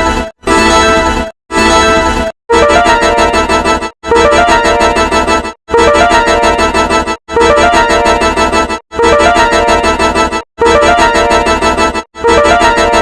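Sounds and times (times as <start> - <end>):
electronic keyboard jingle: 0.0 - 13.0.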